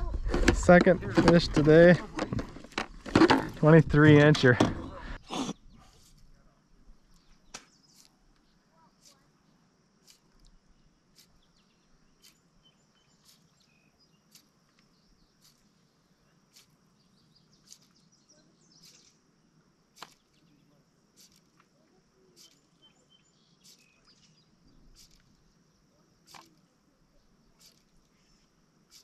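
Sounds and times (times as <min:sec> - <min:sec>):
faint bird chirps: 0:04.9 - 0:19.3, 0:20.0 - 0:29.0.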